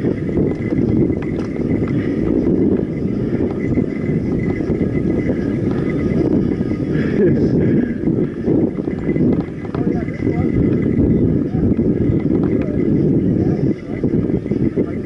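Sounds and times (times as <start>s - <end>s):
bike tyres rolling on dirt: 0.0s - 15.0s
wind buffeting microphone: 0.0s - 15.0s.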